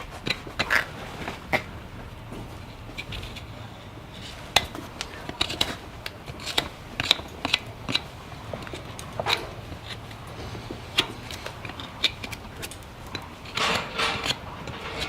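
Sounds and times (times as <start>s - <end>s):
hoof tools clicking and snipping: 0.0s - 15.0s
low steady hum: 0.0s - 15.0s.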